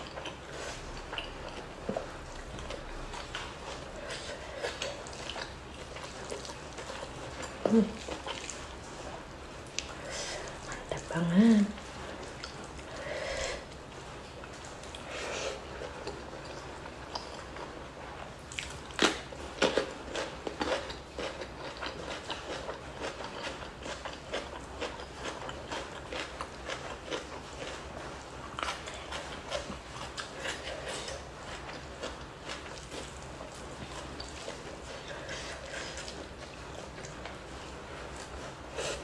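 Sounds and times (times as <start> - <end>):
chewing and mouth clicks: 0.0 - 11.1, 11.8 - 13.0, 15.8 - 17.8, 18.4 - 39.0.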